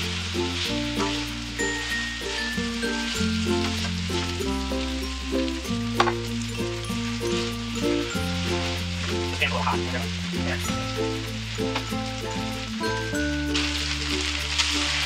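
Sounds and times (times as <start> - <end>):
background music with low notes: 0.0 - 15.0
fried rice sizzling in a wok: 0.0 - 15.0.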